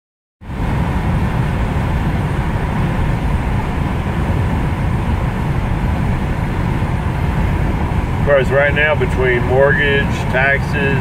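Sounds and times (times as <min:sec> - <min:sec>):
road and engine rumble in car: 0:00.4 - 0:11.0.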